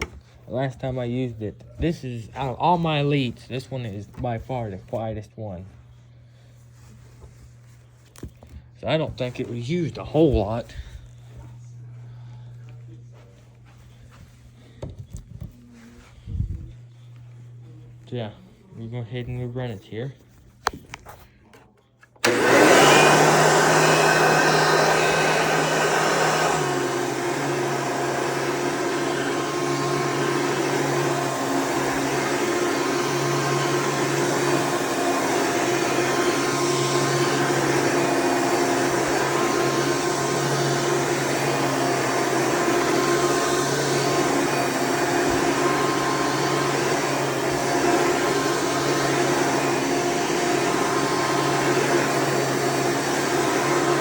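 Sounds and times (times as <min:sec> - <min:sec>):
vacuum cleaner motor running: 0:00.0 - 0:20.0, 0:22.2 - 0:54.0.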